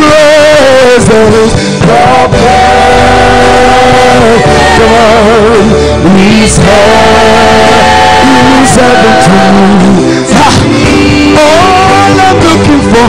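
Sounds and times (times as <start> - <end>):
live band playing: 0.0 - 13.0
man singing into a microphone: 0.0 - 13.0.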